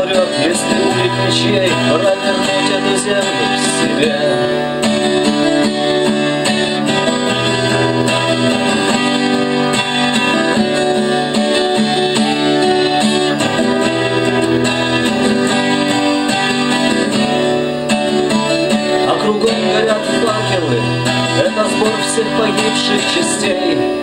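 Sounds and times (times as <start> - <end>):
acoustic guitar strummed: 0.0 - 24.0.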